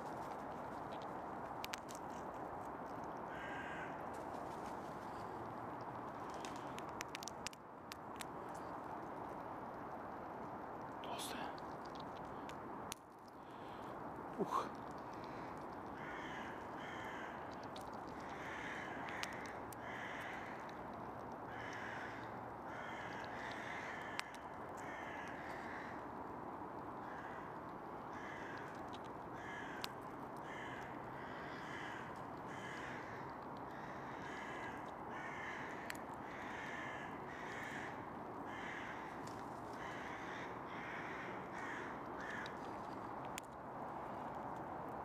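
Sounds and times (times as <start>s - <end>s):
squirrel cracking nuts: 0.0s - 45.0s.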